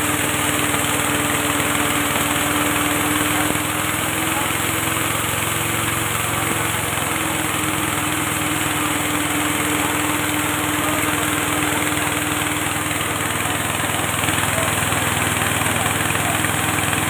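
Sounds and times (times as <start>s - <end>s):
machine motor droning: 0.0s - 17.0s.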